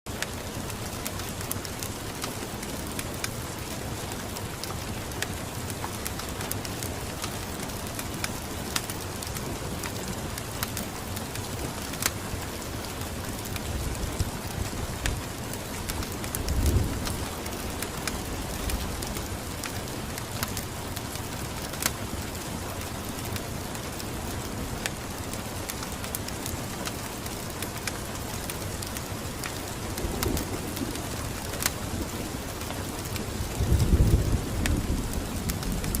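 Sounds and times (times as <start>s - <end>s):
steady rain falling: 0.1s - 36.0s.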